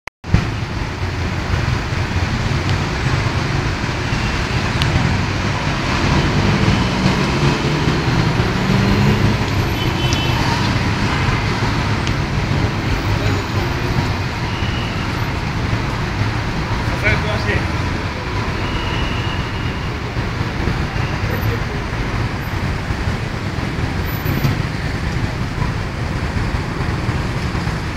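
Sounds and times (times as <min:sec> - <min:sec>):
car engines running: 0:00.3 - 0:27.9
vehicles passing slowly: 0:00.3 - 0:27.9.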